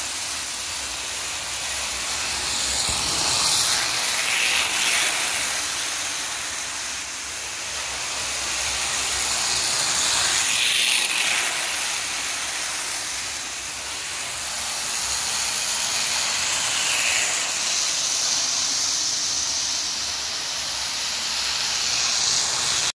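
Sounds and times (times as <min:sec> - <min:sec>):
toy train high rushing whir: 0:00.0 - 0:22.9.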